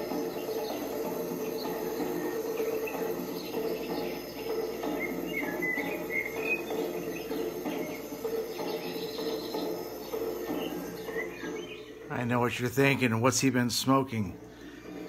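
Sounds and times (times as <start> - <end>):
bird chirps: 0.0 - 13.4
insects droning: 0.0 - 15.0.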